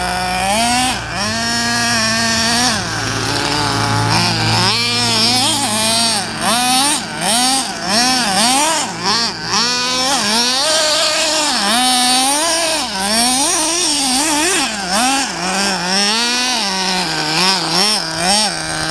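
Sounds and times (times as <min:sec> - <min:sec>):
toy car motor revving: 0:00.0 - 0:18.9.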